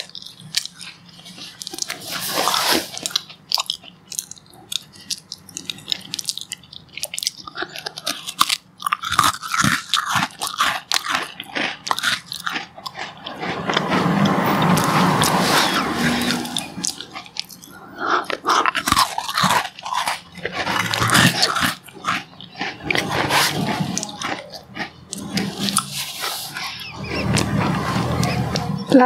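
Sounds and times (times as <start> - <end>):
biscuits crunching: 0.0 - 29.0.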